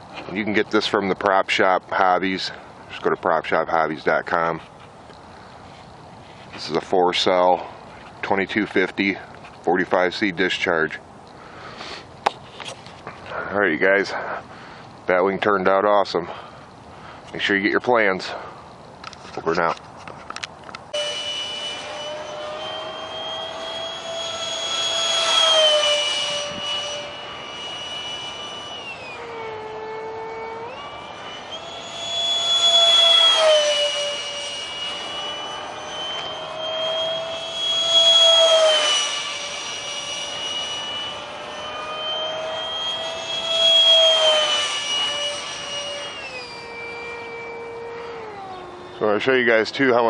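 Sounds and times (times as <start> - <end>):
electric ducted fan whining: 0.0 - 50.0.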